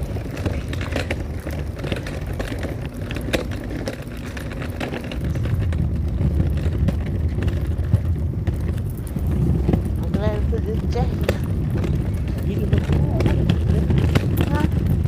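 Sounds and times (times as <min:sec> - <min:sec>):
walker wheels rolling on pavement: 0:00.0 - 0:15.0.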